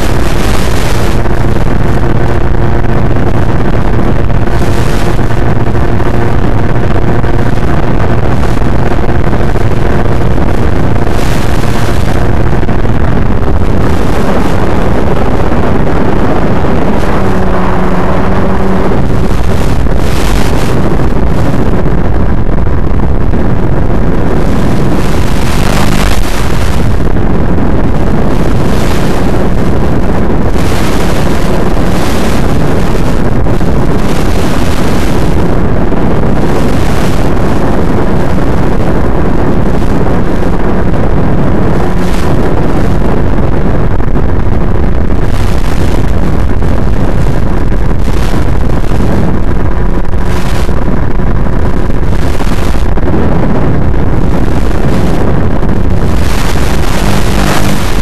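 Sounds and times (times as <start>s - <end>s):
electric motor and propeller hum: 0.0s - 58.0s
rushing wind noise: 0.0s - 58.0s.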